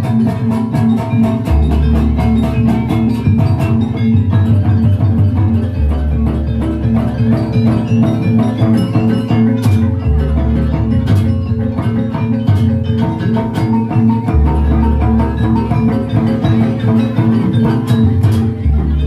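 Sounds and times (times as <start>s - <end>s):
drums: 0.0s - 19.0s
metal mallet percussion: 0.0s - 19.0s.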